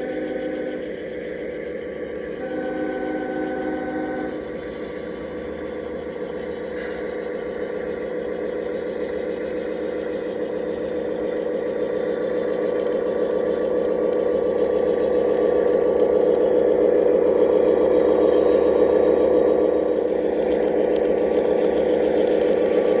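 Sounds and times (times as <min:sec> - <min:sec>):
model train motors whining: 0:00.0 - 0:23.0.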